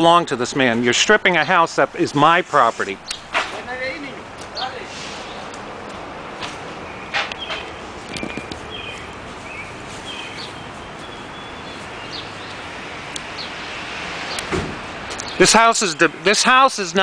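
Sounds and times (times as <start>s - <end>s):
outdoor background noise: 0.0s - 17.0s
birds chirping: 2.9s - 17.0s.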